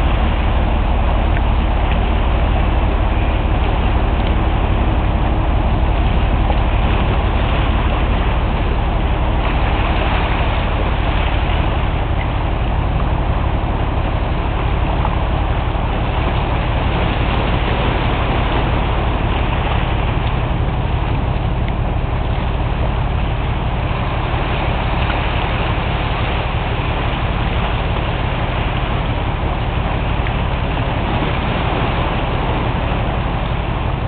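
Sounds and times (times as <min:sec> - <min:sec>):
constant rushing noise: 0:00.0 - 0:34.0
ship engine droning: 0:00.0 - 0:34.0.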